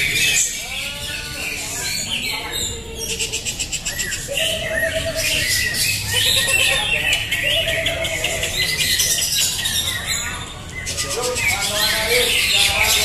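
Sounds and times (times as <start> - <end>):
many birds singing: 0.0 - 13.0.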